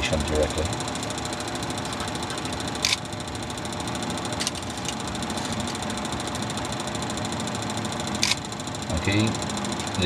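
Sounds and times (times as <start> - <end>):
mechanical hum with high whine: 0.0 - 10.0.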